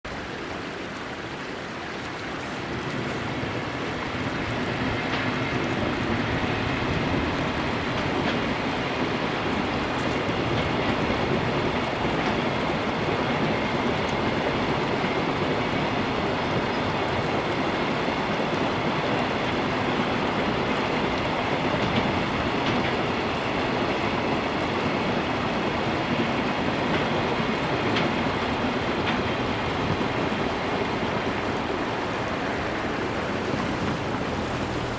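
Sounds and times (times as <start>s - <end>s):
river flowing: 0.0s - 34.9s
train wagons running on rails: 0.1s - 34.9s.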